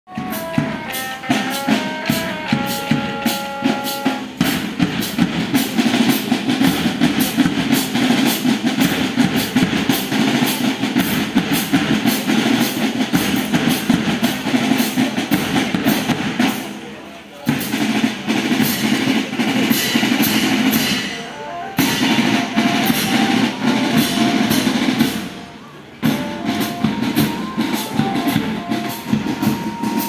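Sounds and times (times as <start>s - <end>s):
marching band tune: 0.1s - 30.0s
marching snare and bass drums: 0.1s - 30.0s.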